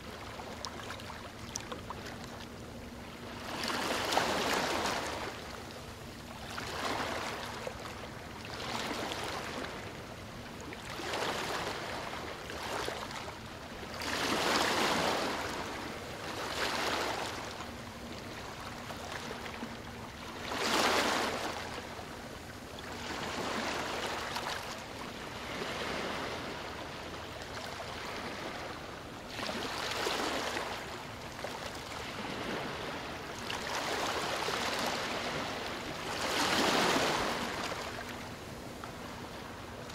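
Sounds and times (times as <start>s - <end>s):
small waves lapping and splashing: 0.0s - 39.9s.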